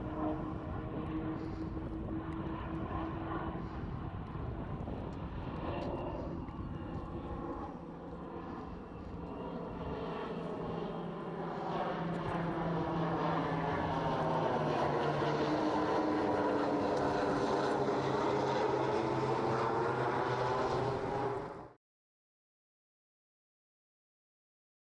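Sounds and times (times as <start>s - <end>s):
turboprop aircraft low pass: 0.0s - 21.8s.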